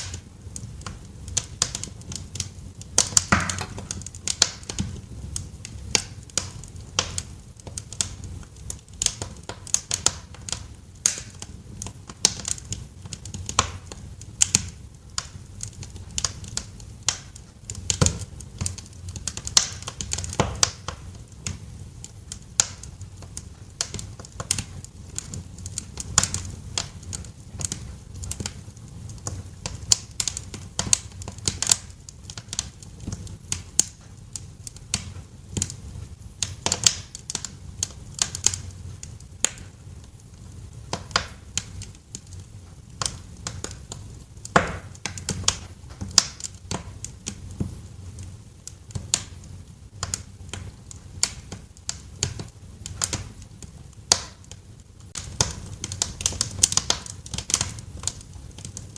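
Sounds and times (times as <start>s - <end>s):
fire popping and snapping: 0.0s - 58.9s
low rumble of burning fire: 0.0s - 58.9s.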